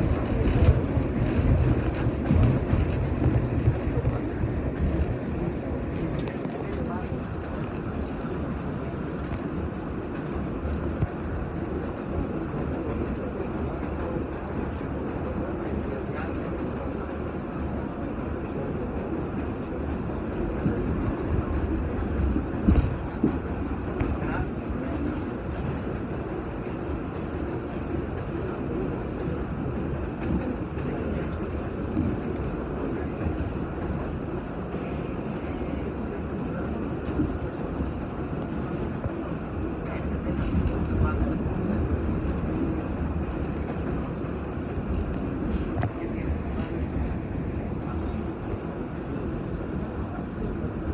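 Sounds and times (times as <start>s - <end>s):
subway train rumbling: 0.0s - 50.9s.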